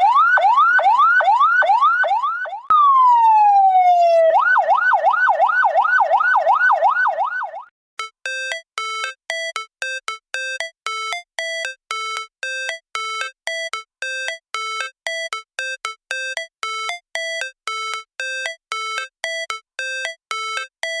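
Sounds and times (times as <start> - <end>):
electronic ambulance siren beeping: 0.0 - 21.0.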